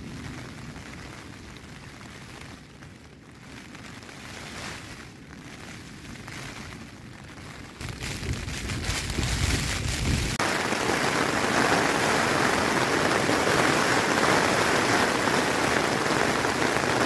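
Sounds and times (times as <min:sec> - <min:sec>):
rain on a tent: 0:00.0 - 0:17.0
wind gusting: 0:03.3 - 0:17.0.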